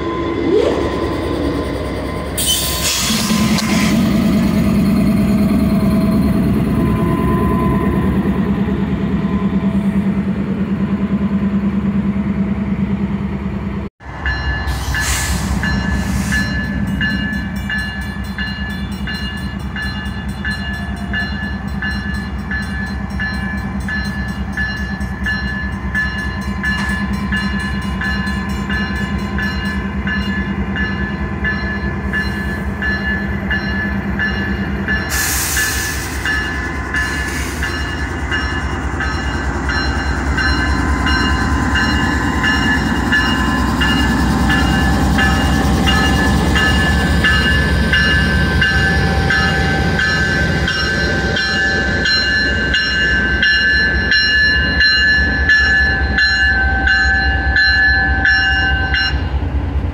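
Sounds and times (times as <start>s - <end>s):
diesel locomotive engine rumble: 0.0s - 59.9s.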